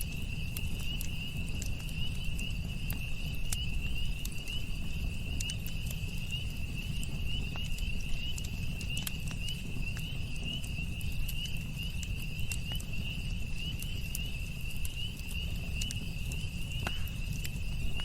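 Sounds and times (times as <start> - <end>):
campfire crackling and popping: 0.0 - 18.0
crickets trilling: 0.0 - 18.0.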